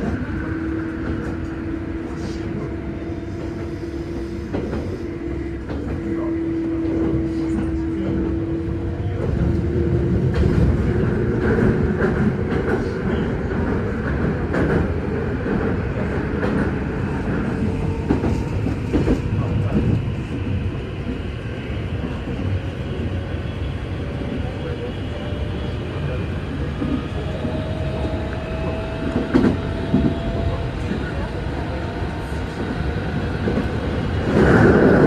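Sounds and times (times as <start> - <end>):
train rumbling on rails: 0.0 - 35.0.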